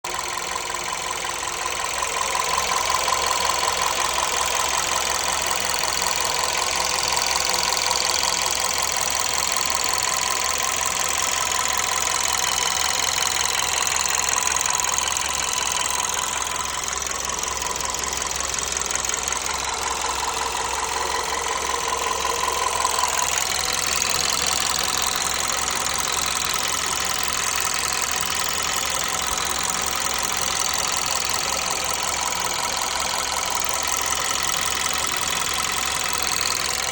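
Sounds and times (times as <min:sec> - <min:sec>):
car engine running: 0:00.0 - 0:36.9
engine knocking: 0:00.0 - 0:36.9.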